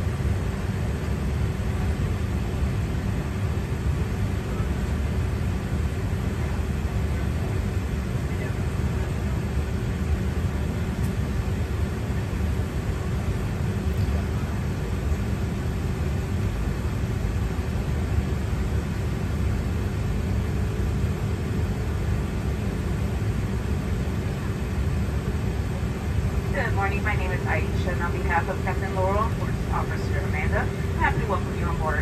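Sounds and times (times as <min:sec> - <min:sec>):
aircraft cabin air conditioning hum: 0:00.0 - 0:32.0.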